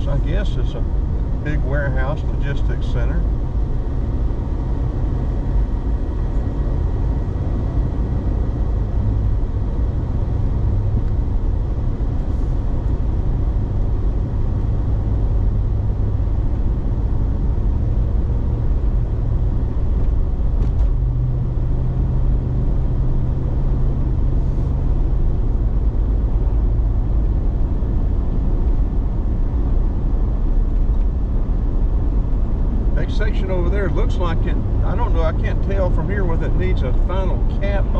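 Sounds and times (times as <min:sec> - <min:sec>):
road and engine rumble inside car: 0:00.0 - 0:37.9.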